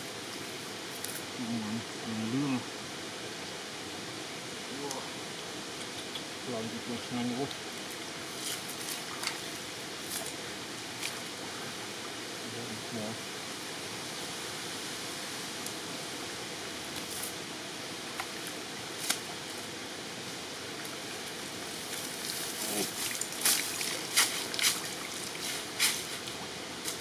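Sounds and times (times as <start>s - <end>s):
shallow river water flowing: 0.0s - 27.0s.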